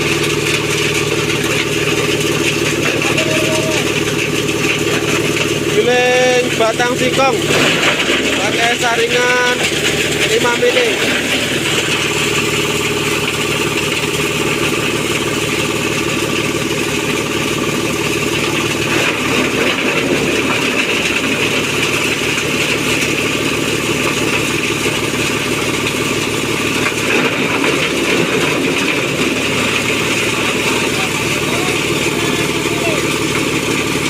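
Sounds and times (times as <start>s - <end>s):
grinding machine humming: 0.0s - 34.0s.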